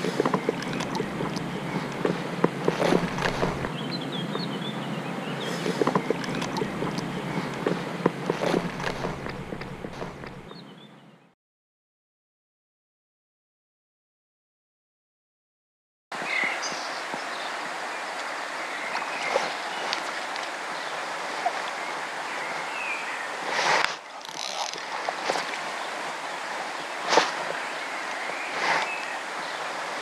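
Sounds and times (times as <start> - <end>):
river water flowing: 0.0 - 11.2, 16.2 - 30.0.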